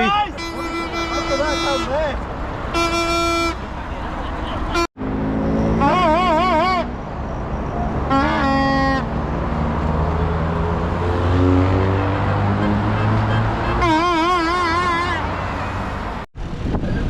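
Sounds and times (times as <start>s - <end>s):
vehicle horns warbling: 0.0s - 9.5s, 11.2s - 16.2s
vehicle engine hum: 0.0s - 17.0s.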